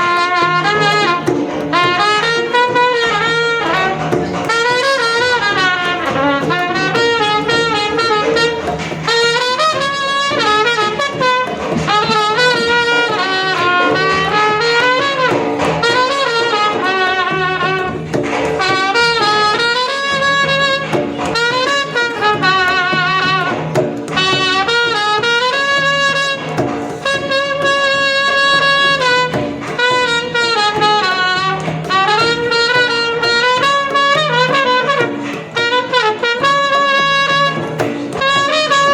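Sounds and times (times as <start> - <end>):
shehnai ornamented melody: 0.0 - 38.9.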